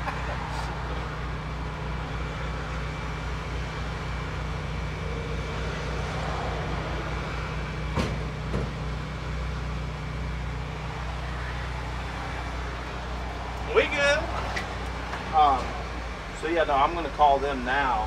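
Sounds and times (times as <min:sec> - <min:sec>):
highway traffic: 0:00.0 - 0:18.0
truck engine idling: 0:00.0 - 0:18.0.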